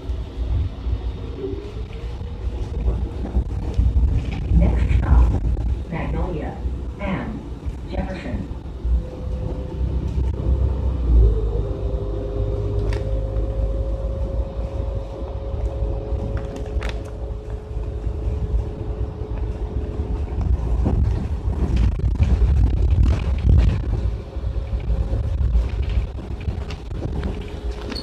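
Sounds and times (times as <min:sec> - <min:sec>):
bus engine rumble: 0:00.0 - 0:28.0
constant whine: 0:00.0 - 0:28.0.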